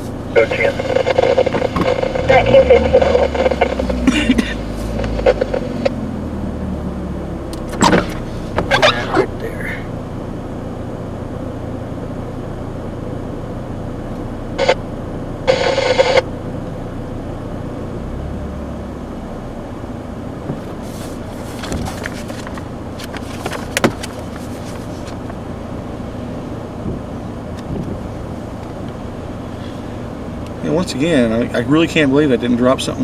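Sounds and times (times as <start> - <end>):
vehicle interior rumble: 0.0 - 33.0.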